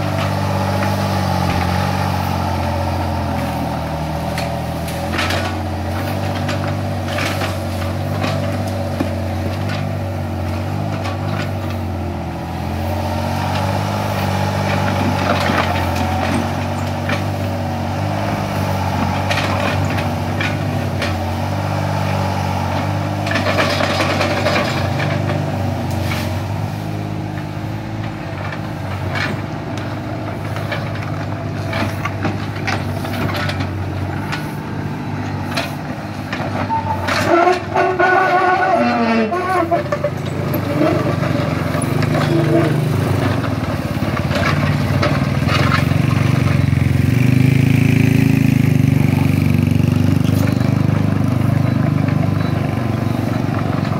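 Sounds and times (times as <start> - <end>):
excavator diesel engine: 0.0 - 53.9.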